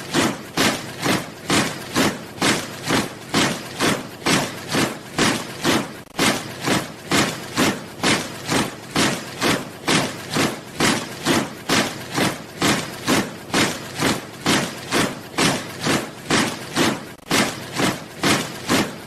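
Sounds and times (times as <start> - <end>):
boots marching in step: 0.0 - 19.0.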